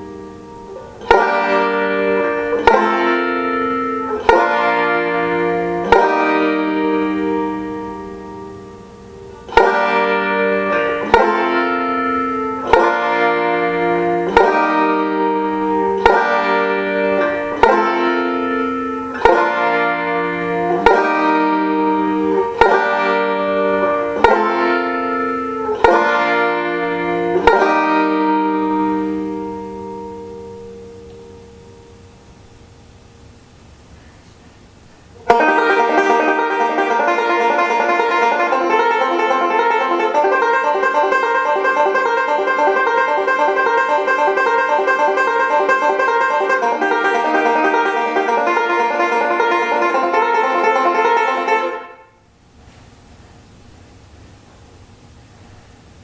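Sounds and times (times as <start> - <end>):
banjo chords ringing: 0.0 - 32.6, 35.1 - 52.3.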